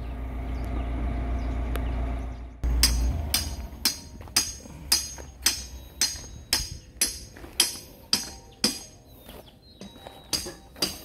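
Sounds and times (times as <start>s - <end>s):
backhoe engine rumbling: 0.0s - 11.0s.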